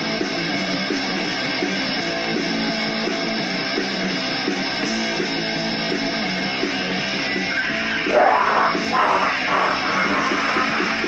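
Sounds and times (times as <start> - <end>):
distorted electric guitar music: 0.0 - 11.0.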